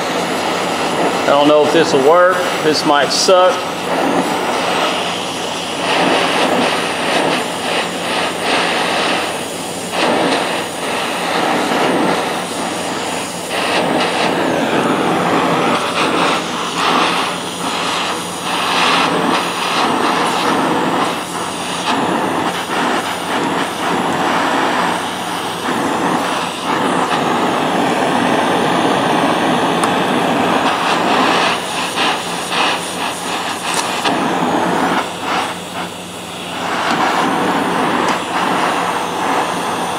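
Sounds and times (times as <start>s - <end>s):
gas torch hissing: 0.0s - 39.9s.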